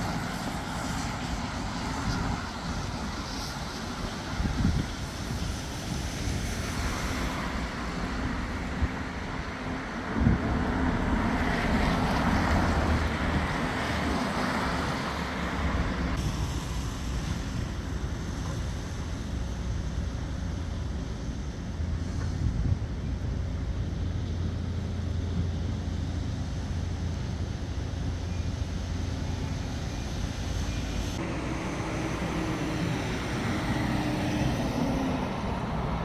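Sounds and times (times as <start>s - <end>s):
engines rumbling: 0.0s - 36.0s
wind buffeting microphone: 0.0s - 36.0s.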